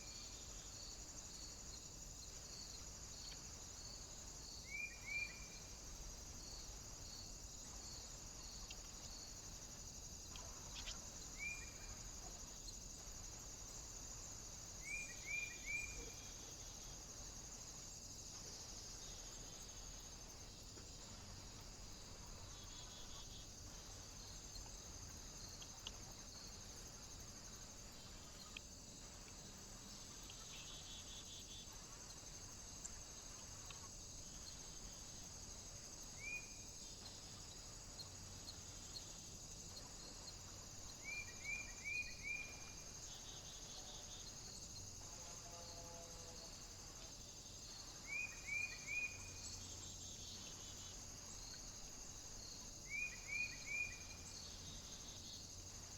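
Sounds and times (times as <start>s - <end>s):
steady high hiss: 0.0s - 55.9s.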